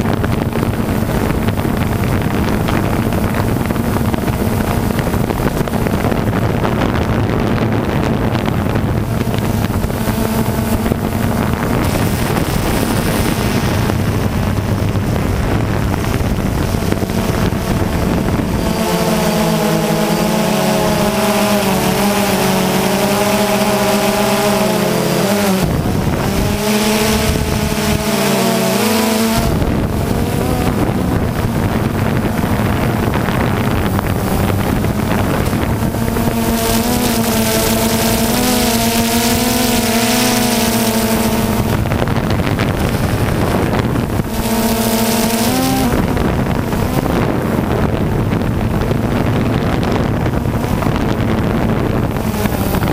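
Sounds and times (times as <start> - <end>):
small aircraft motor and propeller: 0.0 - 52.9
wind on microphone: 0.0 - 52.9
wobbling multi-tone hum: 0.0 - 52.9.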